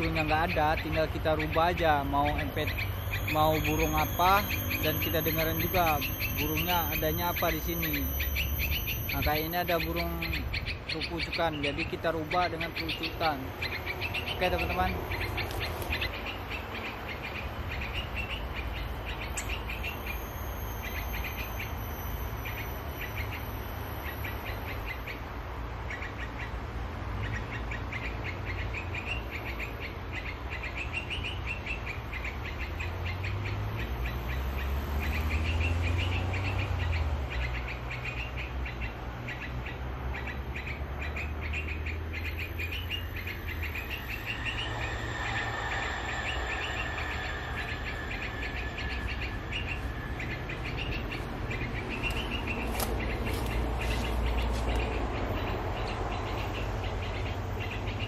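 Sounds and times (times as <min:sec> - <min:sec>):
bird chirping: 0:00.0 - 0:58.0
road traffic rumble: 0:00.0 - 0:58.0.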